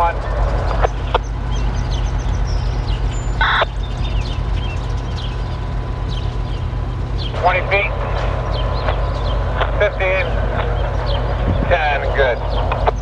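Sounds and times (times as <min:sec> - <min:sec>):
birds chirping: 0:00.0 - 0:13.0
locomotive engine rumble: 0:00.0 - 0:13.0.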